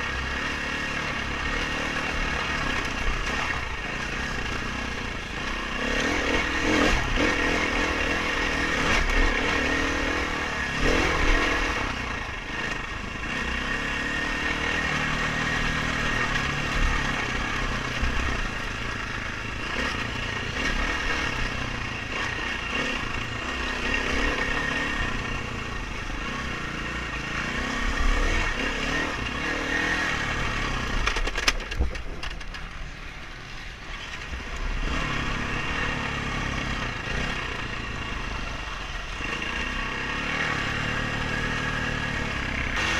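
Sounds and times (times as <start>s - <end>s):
dirt bike engine revving: 0.0s - 31.8s, 34.0s - 42.9s.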